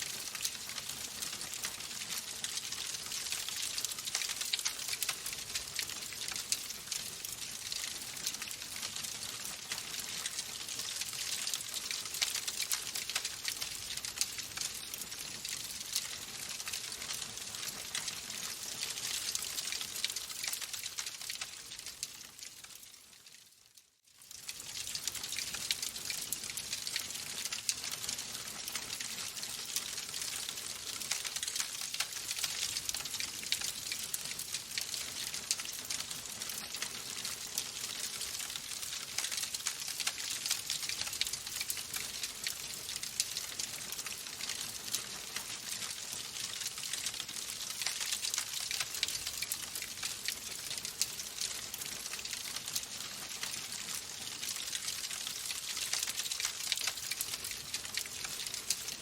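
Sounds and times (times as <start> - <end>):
wood fire crackling: 0.0 - 23.4, 24.2 - 59.0.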